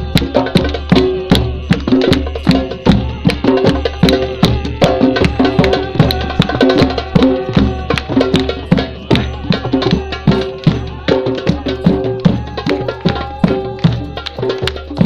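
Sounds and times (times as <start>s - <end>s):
drumming: 0.0s - 15.0s.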